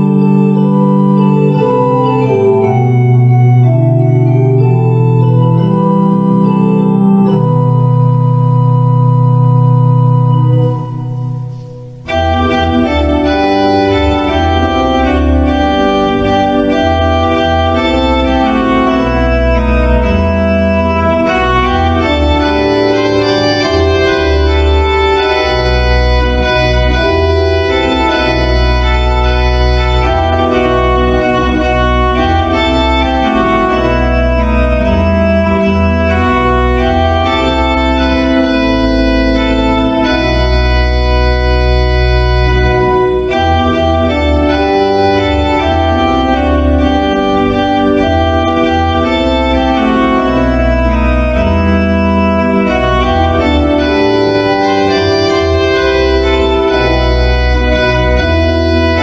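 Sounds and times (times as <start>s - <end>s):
organ playing held chords: 0.0s - 59.0s.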